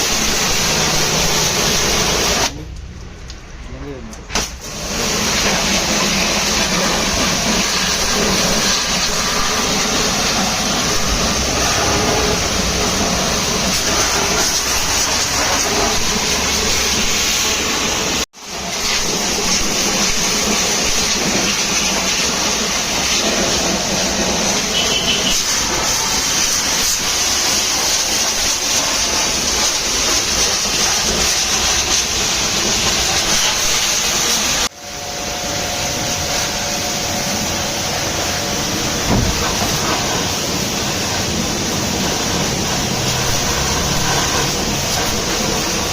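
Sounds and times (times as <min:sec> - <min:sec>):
high-pressure water jet hissing: 0:00.0 - 0:02.7, 0:04.3 - 0:45.9.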